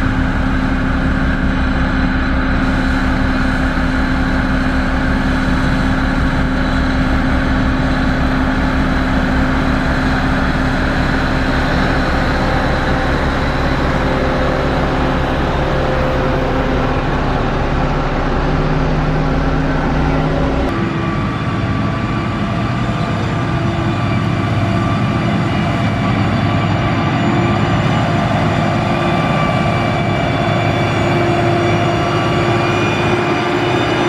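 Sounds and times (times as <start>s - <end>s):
construction machine diesel engine: 0.0s - 34.0s.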